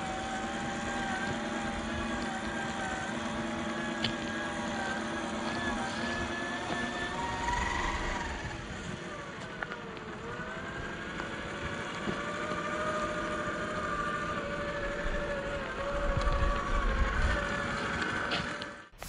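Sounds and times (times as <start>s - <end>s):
toy car electric motor whining: 0.0s - 19.0s
tyres rumbling on dirt: 0.0s - 19.0s.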